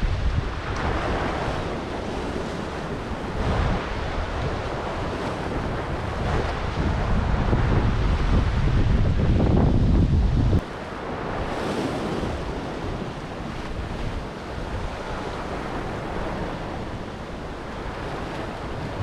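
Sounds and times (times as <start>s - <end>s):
sea surf on rocky shore: 0.0s - 19.0s
wind buffeting microphone: 0.0s - 19.0s.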